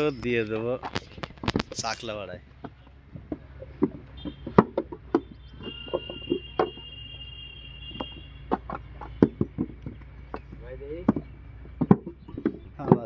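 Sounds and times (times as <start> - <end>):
wooden moulds knocking on ground: 0.0 - 6.9, 7.9 - 13.0.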